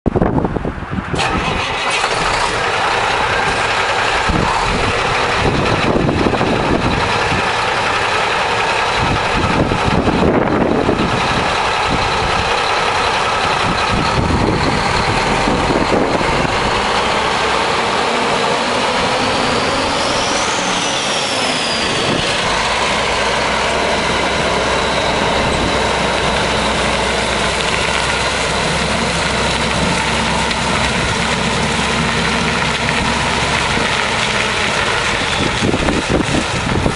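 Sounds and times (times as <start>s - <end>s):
diesel truck engine idling: 0.2s - 36.9s
high whine: 2.0s - 36.9s.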